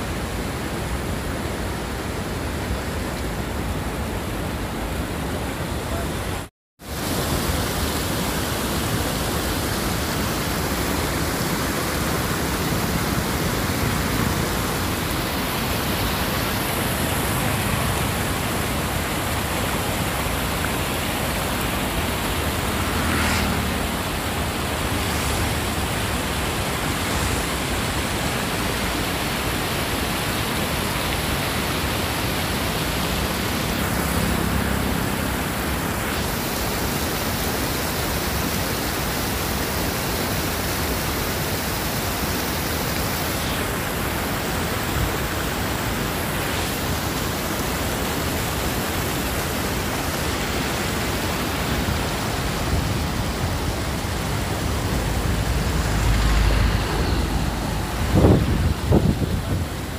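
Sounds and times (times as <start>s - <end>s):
river water rushing over weir: 0.0s - 59.9s.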